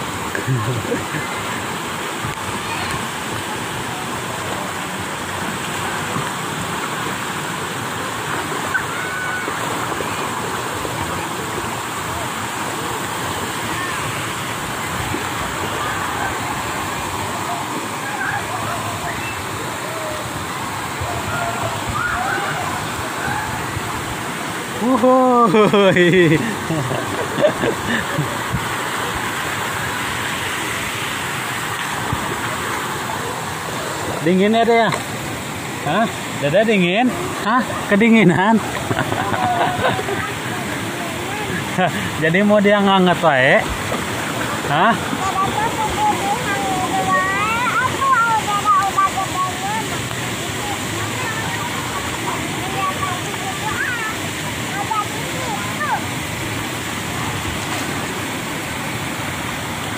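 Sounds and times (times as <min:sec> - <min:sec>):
water spraying into pool: 0:00.0 - 0:59.9
children splashing: 0:00.3 - 0:59.4.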